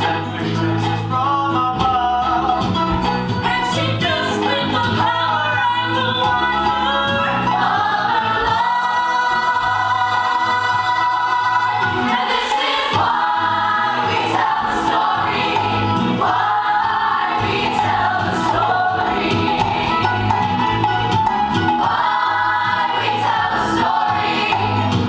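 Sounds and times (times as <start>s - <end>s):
chorus singing with musical accompaniment: 0.0s - 25.0s.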